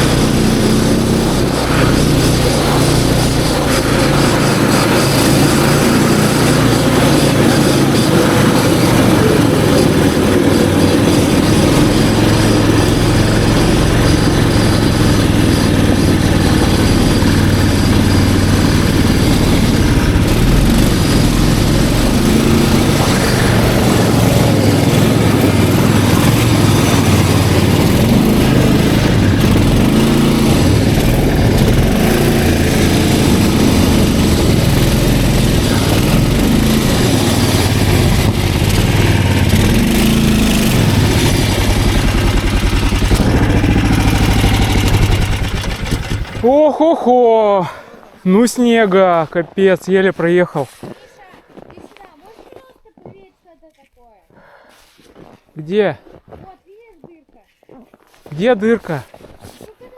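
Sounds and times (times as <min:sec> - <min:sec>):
snowmobile engine running: 0:00.0 - 0:53.3, 0:58.3 - 0:59.0.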